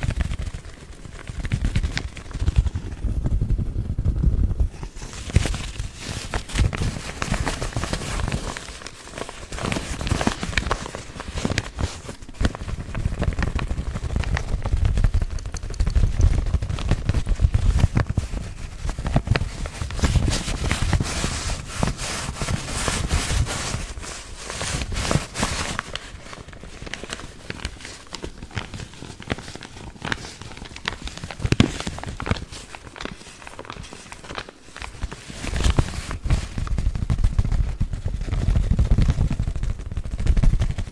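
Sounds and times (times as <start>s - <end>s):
paper filters crinkling: 0.0s - 3.4s, 4.7s - 40.9s.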